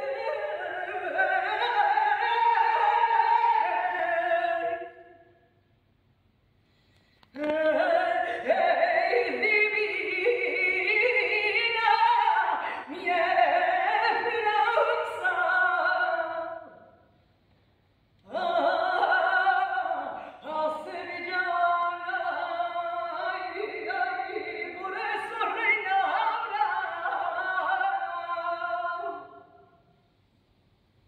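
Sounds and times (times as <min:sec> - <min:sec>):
woman singing unaccompanied: 0:00.0 - 0:05.3, 0:07.4 - 0:17.0, 0:18.2 - 0:29.6.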